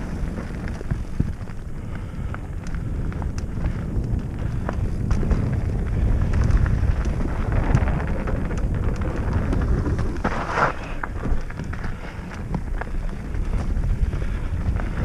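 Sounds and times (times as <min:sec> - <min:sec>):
bike clicks and rattles: 0:00.0 - 0:15.0
tyres rolling on dirt trail: 0:00.0 - 0:15.0
wind buffeting microphone: 0:00.0 - 0:15.0.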